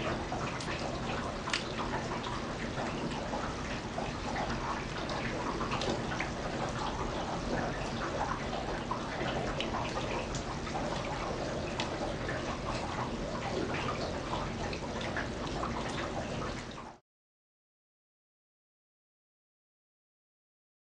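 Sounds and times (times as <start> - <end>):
rain splashing into standing water: 0.0 - 17.0.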